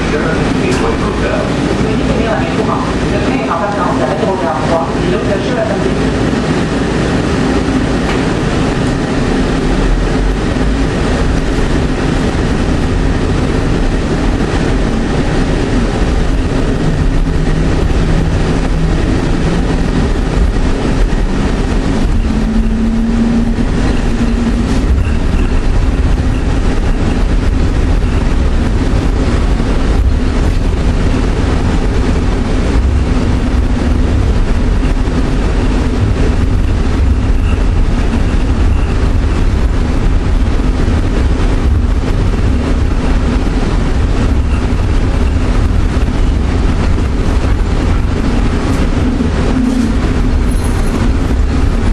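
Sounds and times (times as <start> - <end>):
low hums: 0.0 - 51.9
people-mover car rumbling: 0.0 - 51.9.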